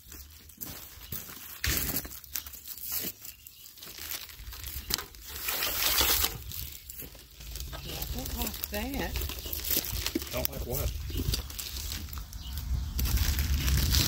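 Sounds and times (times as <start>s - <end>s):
plastic bag crinkling: 0.3s - 14.0s.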